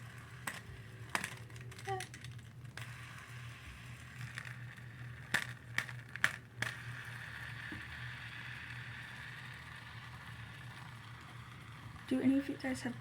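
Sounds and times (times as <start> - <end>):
fidget spinner whirring: 0.0 - 13.0
fidget spinner clicks: 0.1 - 13.0.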